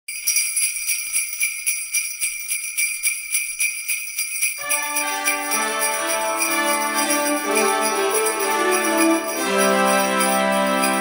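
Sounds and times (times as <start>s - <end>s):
christmas music with held notes: 0.1s - 11.0s
jingle bells shaken: 0.1s - 11.0s.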